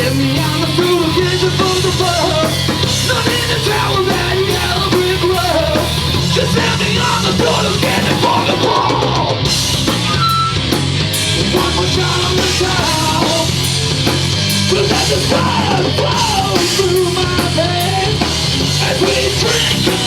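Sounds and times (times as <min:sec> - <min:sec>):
person singing: 0:00.0 - 0:09.5, 0:11.5 - 0:13.6, 0:14.7 - 0:20.0
drums: 0:00.0 - 0:20.0
live punk metal band: 0:00.0 - 0:20.0.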